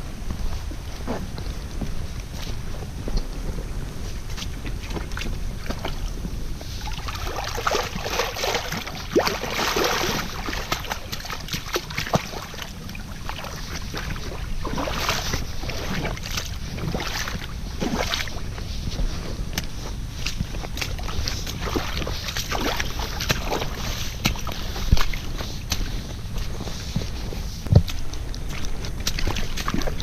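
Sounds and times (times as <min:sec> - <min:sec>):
footsteps: 0:00.0 - 0:30.0
wind rumble on microphone: 0:00.0 - 0:30.0.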